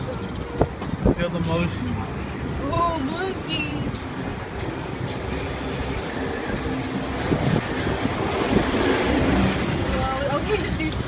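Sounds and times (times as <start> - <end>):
carnival ride mechanical rumble: 0.0 - 11.0.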